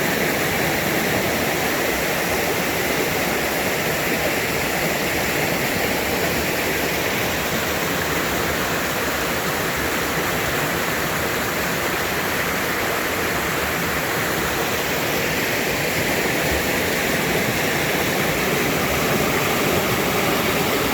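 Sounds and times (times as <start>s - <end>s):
stream flowing: 0.0s - 20.9s.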